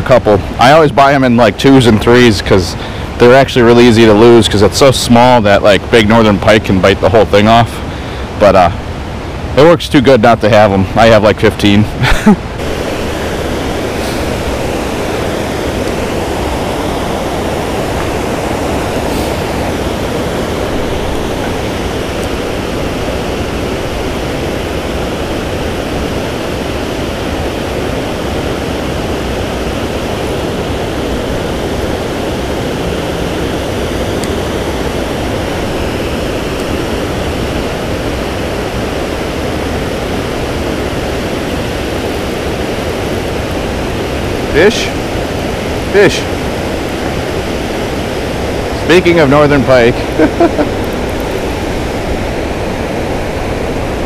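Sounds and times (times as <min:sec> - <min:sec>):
water rushing over spillway: 0:00.0 - 0:54.0.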